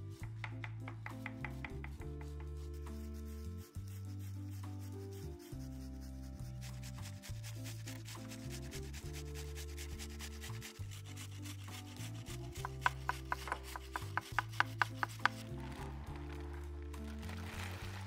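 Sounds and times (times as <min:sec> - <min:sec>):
low background music: 0:00.0 - 0:18.0.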